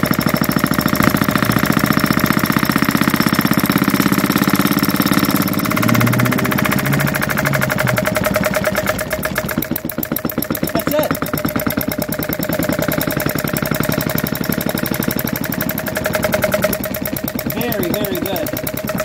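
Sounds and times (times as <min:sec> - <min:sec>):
model diesel engine running: 0:00.0 - 0:19.0.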